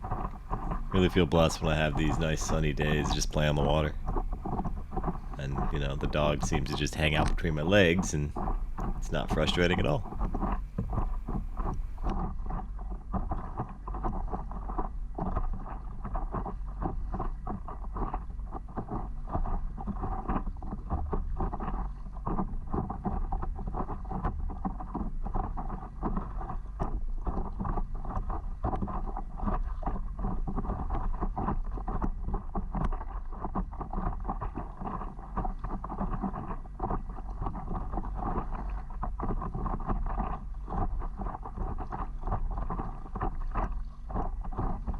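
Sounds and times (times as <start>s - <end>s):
water splashing and lapping: 0.0s - 44.9s
wind rumbling on microphone: 0.0s - 44.9s.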